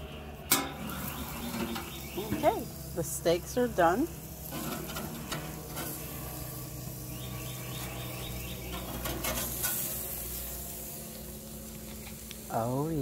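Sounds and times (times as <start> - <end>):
low hum: 0.0 - 13.0
meat sizzling on a grill: 0.5 - 13.0.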